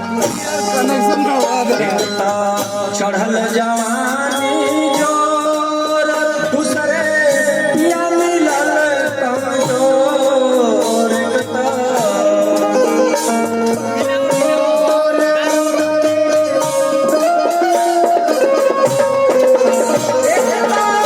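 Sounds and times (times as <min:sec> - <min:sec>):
folk instrumental music: 0:00.0 - 0:21.0
person singing: 0:00.0 - 0:21.0
tabla drumming: 0:00.0 - 0:21.0.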